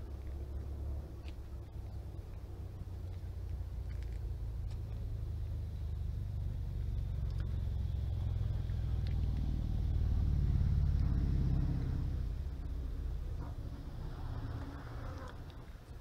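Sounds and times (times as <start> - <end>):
passing motor vehicle rumble: 0.0 - 16.0.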